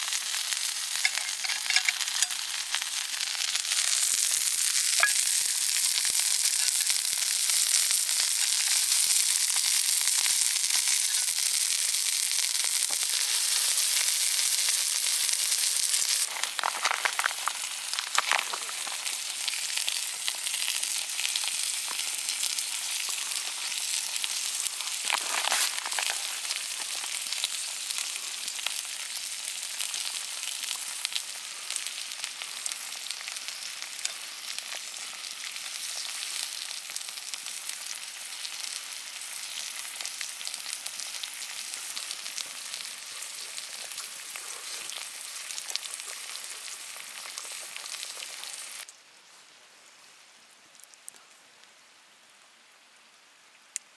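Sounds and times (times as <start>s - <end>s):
steak sizzling in a pan: 0.0s - 48.9s.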